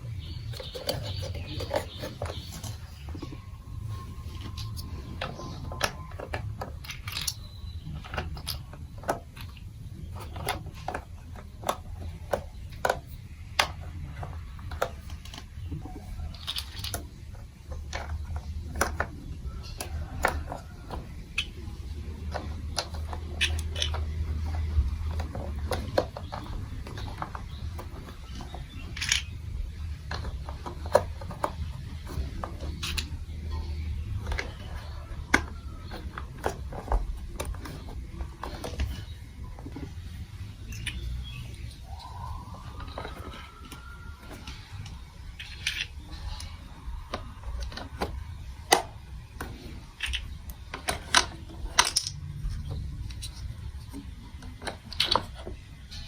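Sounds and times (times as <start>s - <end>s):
plastic marble run clicks: 0.2s - 56.0s.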